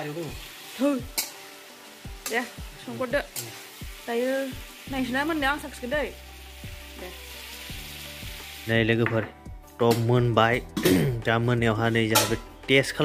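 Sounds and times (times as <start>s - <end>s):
food sizzling in oil: 0.0s - 10.9s.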